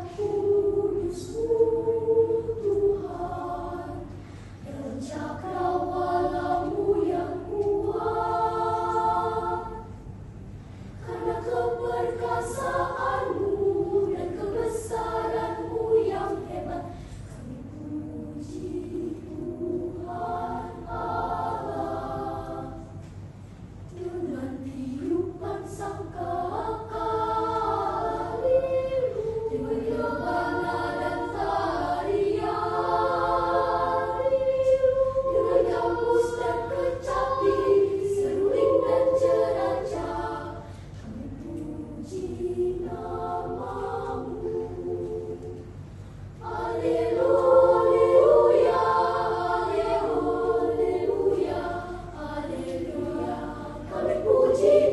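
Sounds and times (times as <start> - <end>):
choir singing in harmony: 0.0 - 10.3, 11.0 - 54.9.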